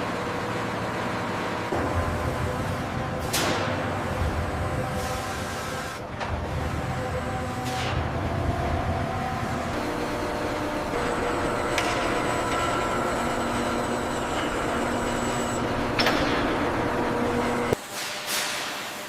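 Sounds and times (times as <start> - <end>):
machine rumble: 0.2 - 17.8.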